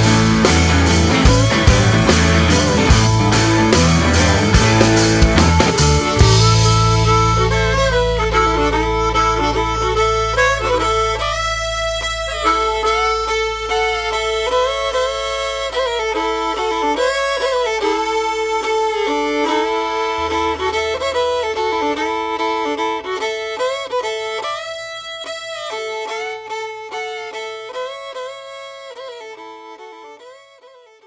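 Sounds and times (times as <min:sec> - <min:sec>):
fiddle melody over drone note: 0:00.0 - 0:31.0.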